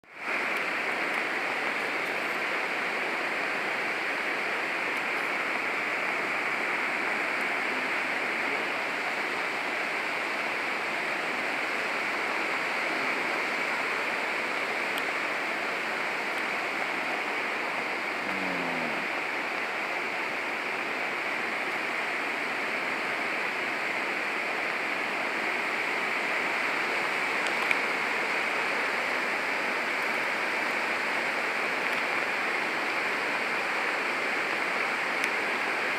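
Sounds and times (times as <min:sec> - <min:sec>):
waterfall rushing: 0:00.2 - 0:35.9.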